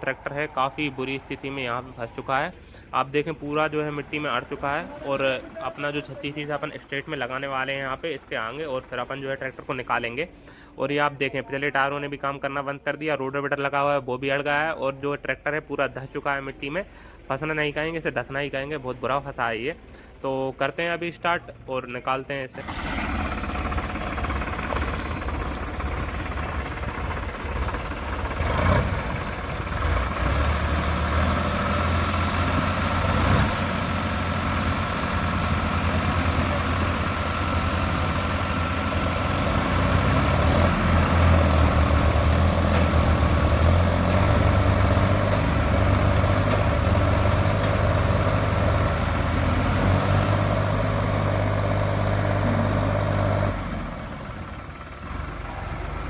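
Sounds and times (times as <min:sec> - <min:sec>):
tractor diesel engine straining: 0:00.0 - 0:10.8, 0:16.0 - 0:56.0.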